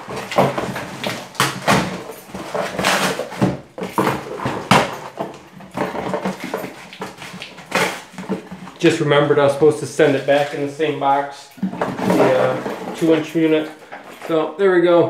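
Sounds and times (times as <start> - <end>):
cardboard scraping and rustling: 0.0 - 14.5.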